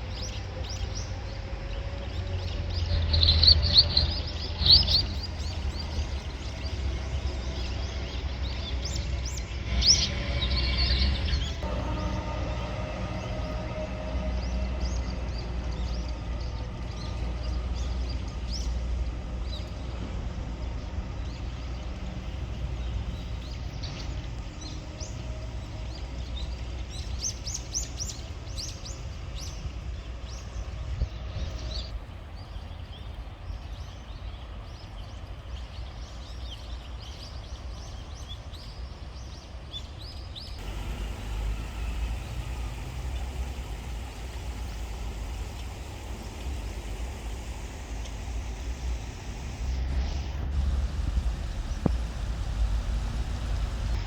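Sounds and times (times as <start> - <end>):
small birds chirping: 0.0 - 19.9, 20.6 - 54.0
low rumble of road traffic: 0.0 - 54.0.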